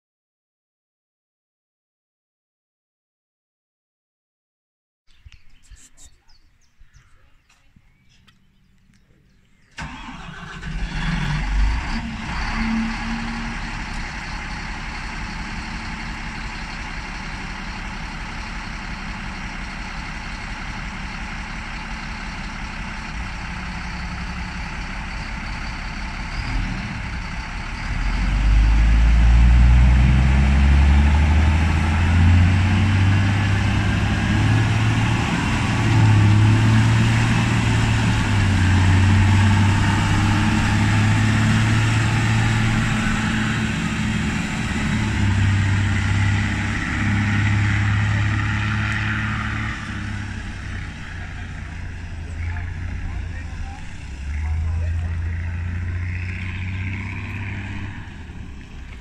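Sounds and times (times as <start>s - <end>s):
diesel engine starting and idling: 8.0s - 59.0s
diesel engine revving: 9.6s - 59.0s.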